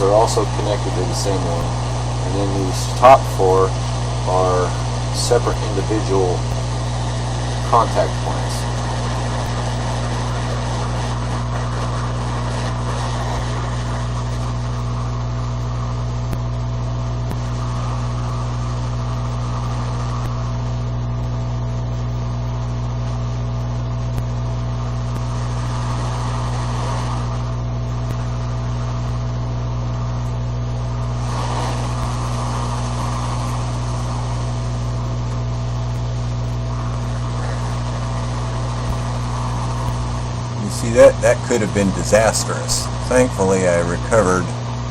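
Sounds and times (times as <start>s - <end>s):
hot air station fan hum and hiss: 0.0s - 44.9s.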